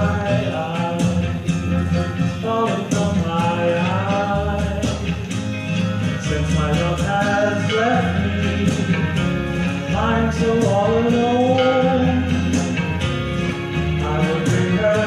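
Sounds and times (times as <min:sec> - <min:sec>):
song with singer and instruments: 0:00.0 - 0:15.0.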